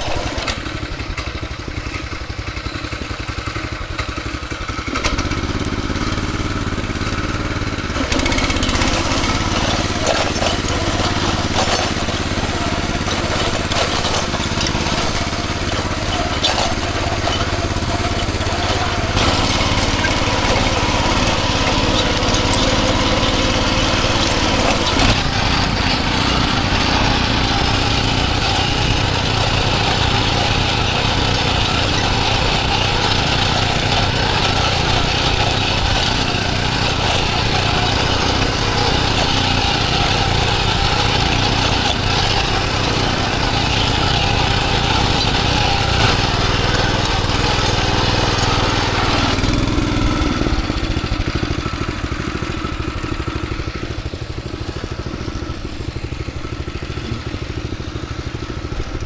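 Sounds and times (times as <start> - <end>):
tiller engine running: 0.0 - 59.0
knocks and clatter: 5.0 - 54.4.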